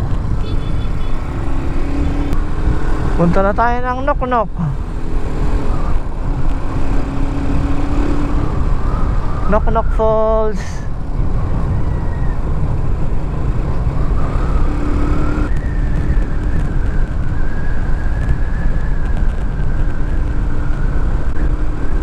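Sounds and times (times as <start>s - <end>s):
motorcycle engine cruising: 0.0s - 10.2s, 10.9s - 22.0s
wind rush on microphone: 0.0s - 22.0s.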